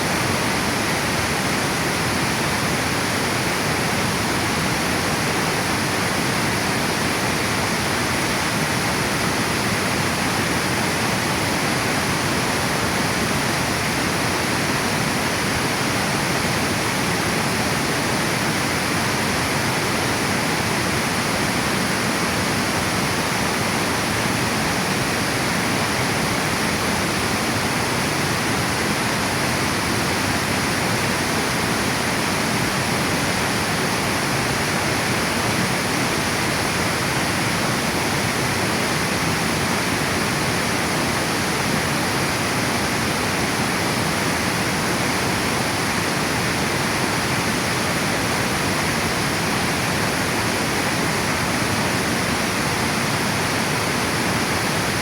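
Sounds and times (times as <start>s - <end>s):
water rushing over dam: 0.0s - 55.0s.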